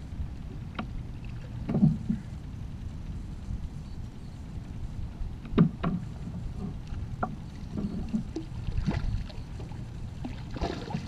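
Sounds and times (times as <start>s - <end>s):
wind rumble on microphone: 0.0s - 11.0s
water lapping against kayak hull: 0.4s - 3.6s, 4.9s - 11.0s.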